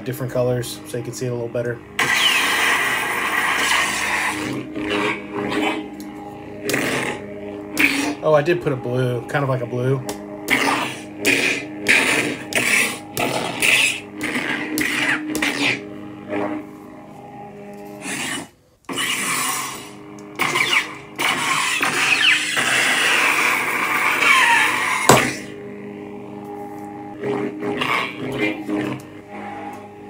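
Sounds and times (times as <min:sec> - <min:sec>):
lightsaber hum: 0:00.0 - 0:30.0.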